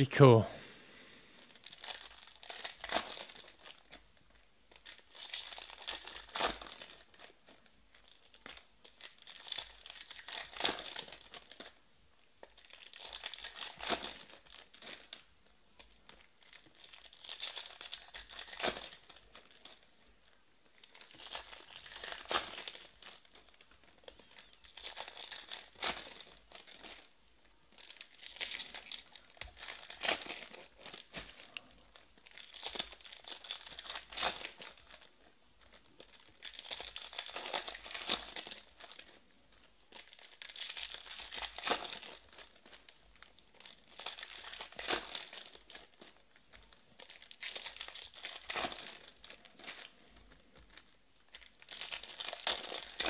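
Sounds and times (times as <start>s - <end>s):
wrappers crinkling and tearing: 1.4s - 11.8s, 12.4s - 53.0s.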